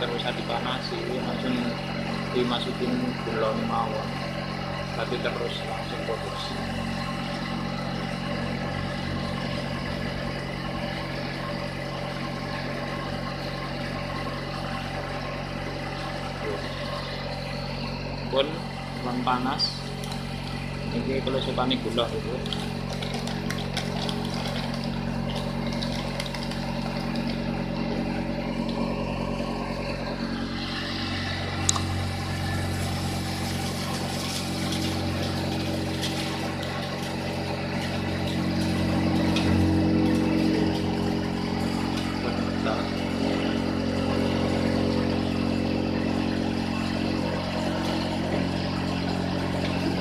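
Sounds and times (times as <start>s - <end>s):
cotton candy machine motor humming: 0.0s - 50.0s.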